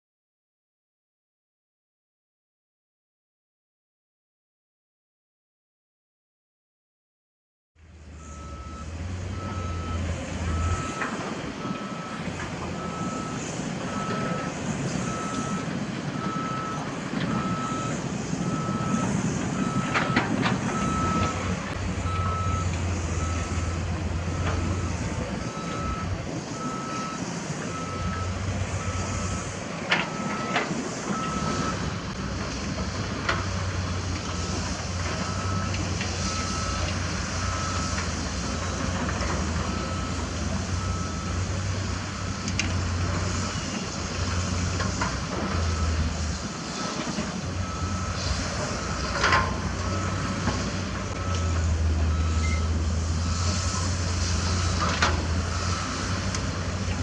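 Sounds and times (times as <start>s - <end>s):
diesel engines running: 7.8s - 57.0s
reversing alarm beeping: 8.2s - 32.2s, 34.2s - 56.4s.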